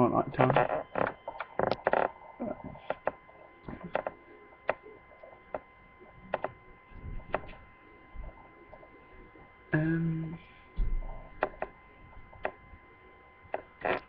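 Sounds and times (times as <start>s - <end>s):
low buzzing tone: 0.0s - 14.0s.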